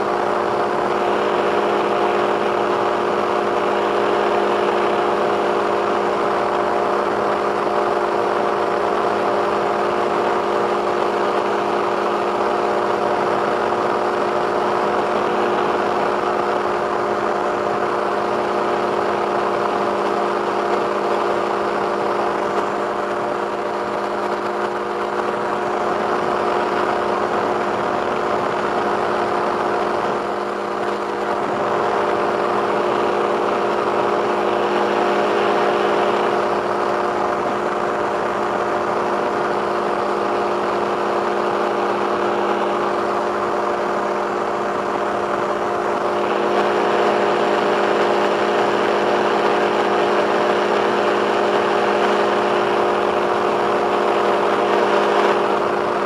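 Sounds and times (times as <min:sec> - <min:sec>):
two-stroke engine droning: 0:00.0 - 0:56.0.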